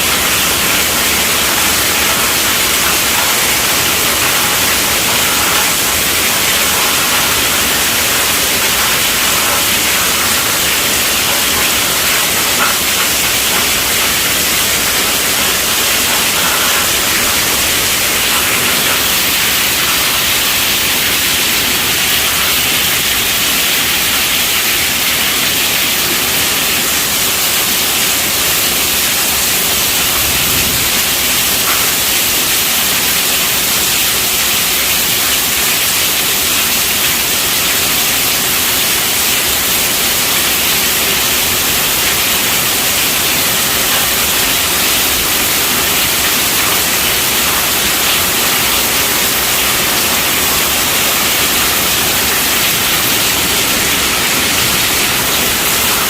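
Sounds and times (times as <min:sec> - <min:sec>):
heavy rain on a tent roof: 0:00.0 - 0:56.0.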